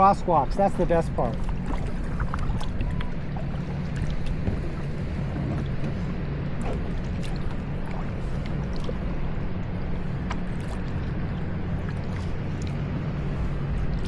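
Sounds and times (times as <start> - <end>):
paddle drips and splashes: 0.0 - 14.0
wind and water rumble on microphone: 0.0 - 14.0.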